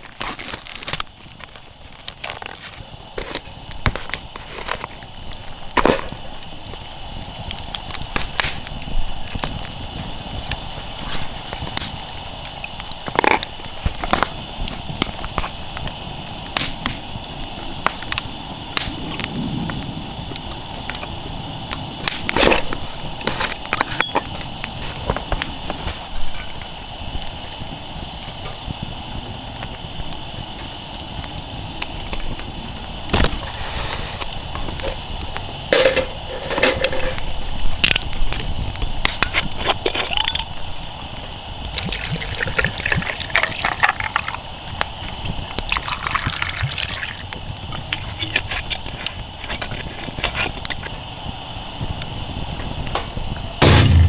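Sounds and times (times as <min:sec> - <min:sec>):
sharp crackles and knocks: 0:00.0 - 0:54.0
high-pitched insect drone: 0:01.2 - 0:54.0.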